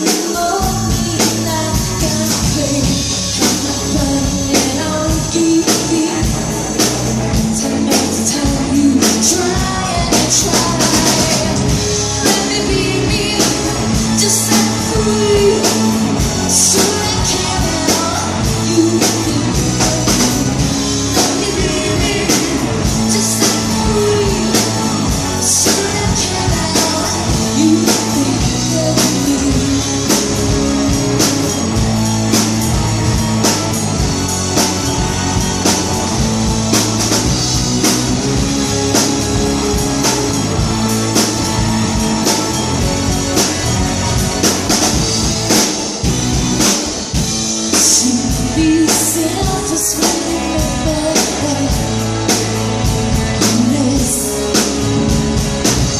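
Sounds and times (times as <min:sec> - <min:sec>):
live rock band playing: 0:00.0 - 0:55.9
person singing lead vocals: 0:00.0 - 0:55.9.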